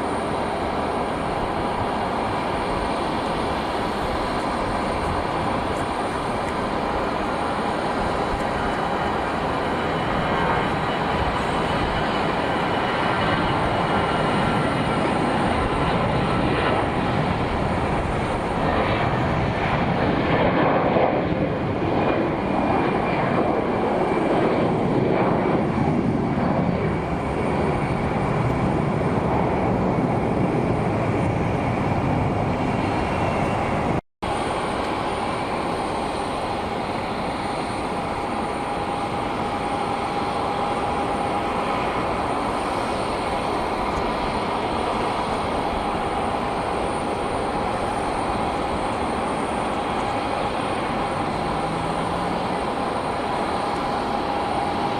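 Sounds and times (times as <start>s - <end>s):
faint engine whine: 0.0s - 54.9s
jet aircraft passing: 0.0s - 54.9s.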